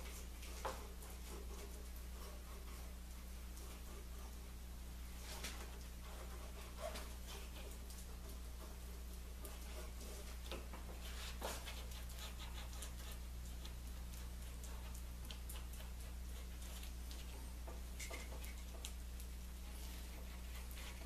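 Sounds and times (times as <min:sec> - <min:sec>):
glue brush scratching on wood: 0:00.0 - 0:04.6, 0:05.2 - 0:21.0.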